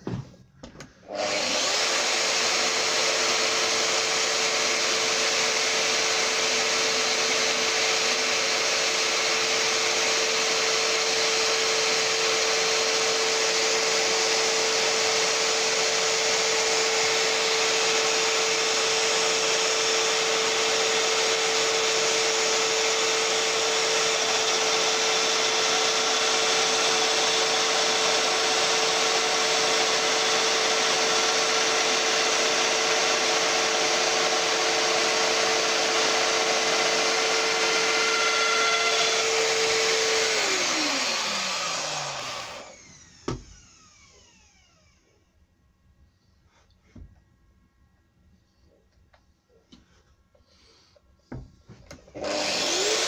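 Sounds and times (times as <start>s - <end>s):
dust extractor running: 1.0s - 45.0s, 52.0s - 53.0s
power joiner running: 1.0s - 45.1s, 51.3s - 53.0s.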